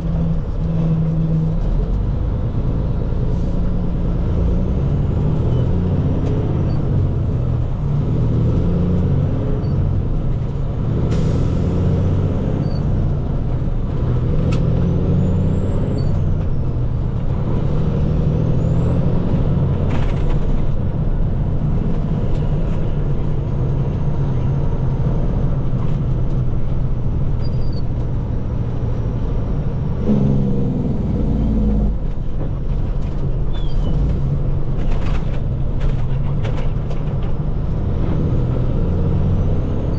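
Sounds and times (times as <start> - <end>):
diesel engine from inside cab: 0.0 - 39.9.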